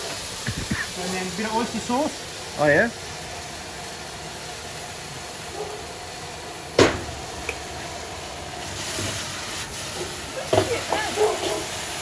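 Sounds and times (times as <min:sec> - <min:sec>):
gas burner hissing: 0:00.0 - 0:12.0
vegetables sizzling in a wok: 0:00.0 - 0:12.0.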